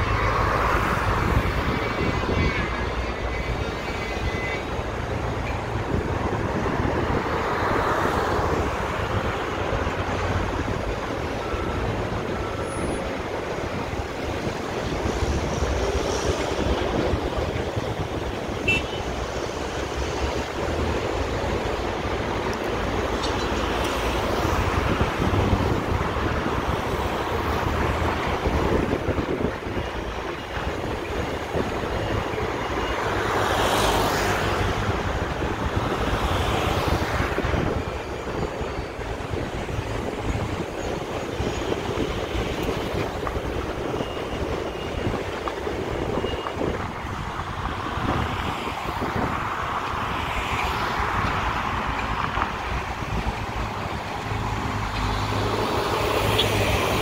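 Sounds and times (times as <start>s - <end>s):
passing vehicles traffic noise: 0.0s - 57.0s.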